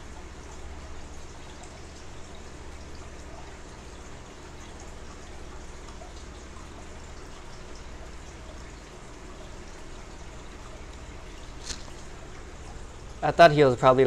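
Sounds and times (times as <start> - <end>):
aquarium filter hum: 0.0 - 14.0
water trickling and splashing: 0.0 - 14.0.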